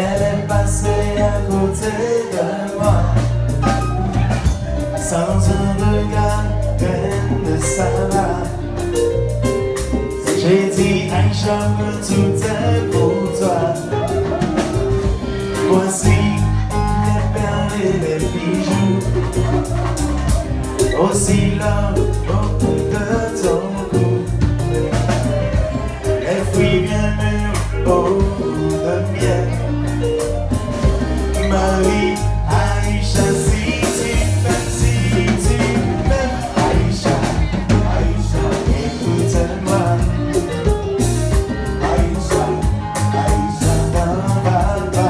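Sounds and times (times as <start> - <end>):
man singing into microphone: 0.0 - 9.2, 9.8 - 45.0
acoustic guitar: 0.0 - 45.0
drum kit: 0.0 - 45.0
electric guitar: 0.0 - 45.0.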